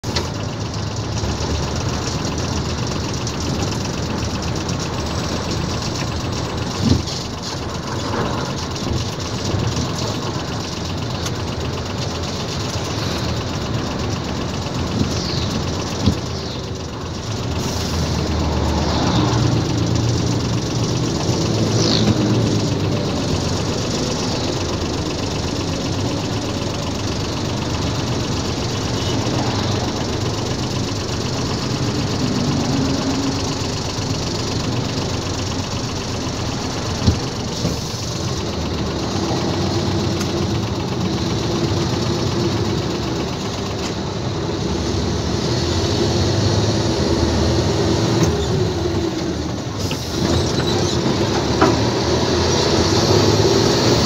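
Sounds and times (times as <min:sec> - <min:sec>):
diesel engine under load: 0:00.0 - 0:54.0
road noise: 0:00.0 - 0:54.0.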